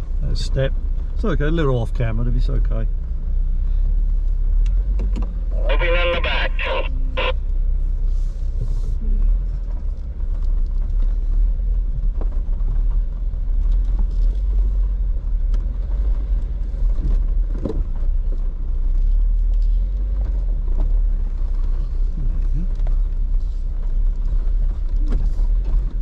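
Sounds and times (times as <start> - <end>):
vehicle engine low rumble: 0.0 - 26.0.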